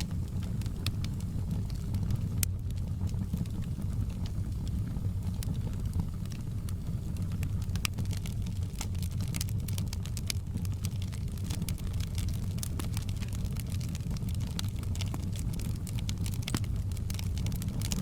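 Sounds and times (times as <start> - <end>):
fire rumbling in fireplace: 0.0 - 18.0
wood crackling and popping: 0.0 - 18.0.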